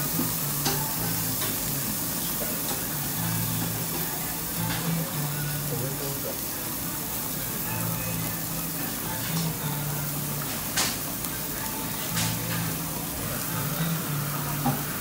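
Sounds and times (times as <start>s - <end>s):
background music with bass: 0.0s - 6.4s, 7.3s - 10.7s, 11.4s - 15.0s
meat sizzling on grill plate: 0.0s - 15.0s.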